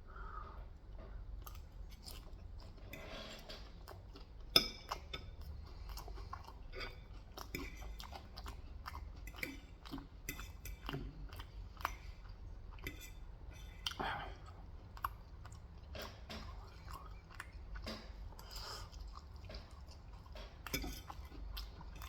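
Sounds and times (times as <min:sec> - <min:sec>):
chewing crispy fried chicken: 0:00.9 - 0:22.0.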